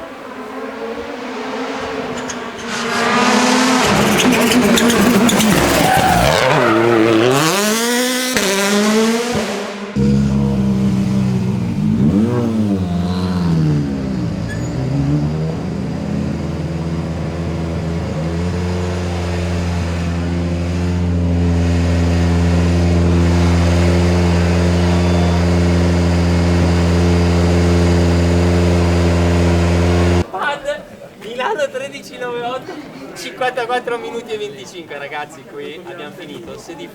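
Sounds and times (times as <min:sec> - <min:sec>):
rally car engine revving: 0:00.1 - 0:30.3.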